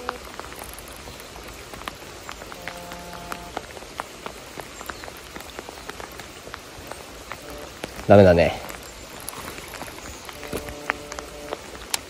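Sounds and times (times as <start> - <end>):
drops ticking on a surface: 0.0 - 12.0
rain hissing: 0.0 - 12.0.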